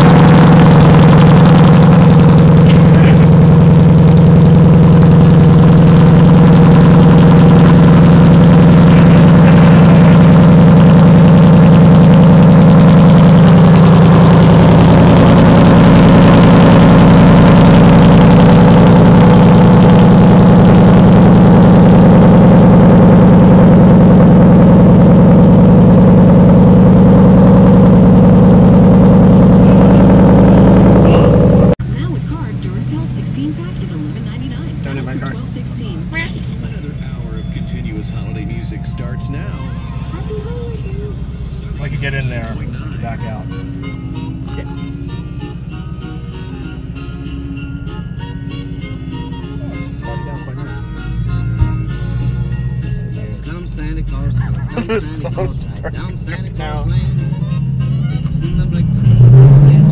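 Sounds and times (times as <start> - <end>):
loud vee eight engine idling: 0.0 - 59.9.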